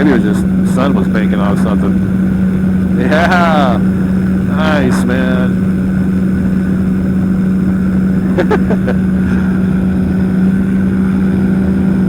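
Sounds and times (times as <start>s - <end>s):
engine and propeller drone: 0.0s - 12.0s.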